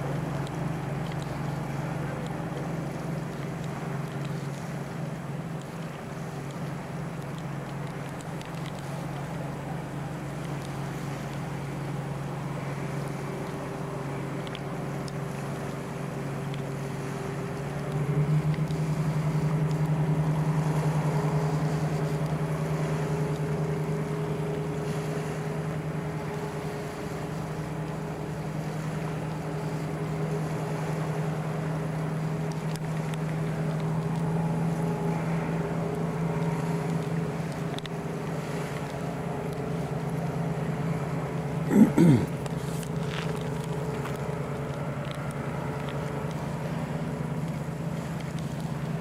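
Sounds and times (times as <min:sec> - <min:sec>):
road and wind noise: 0:00.0 - 0:49.0.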